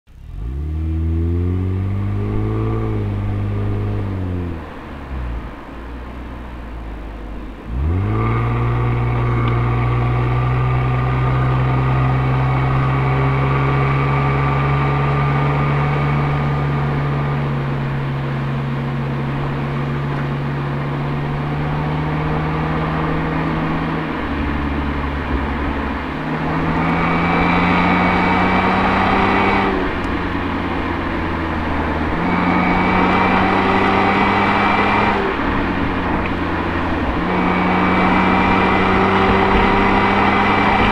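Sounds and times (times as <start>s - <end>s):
car engine revving through exhaust: 0.1s - 40.9s.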